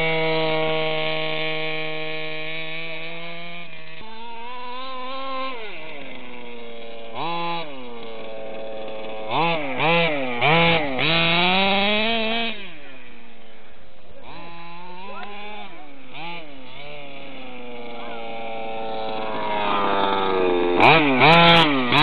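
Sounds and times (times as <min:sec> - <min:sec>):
small two-stroke engine revving: 0:00.0 - 0:22.0.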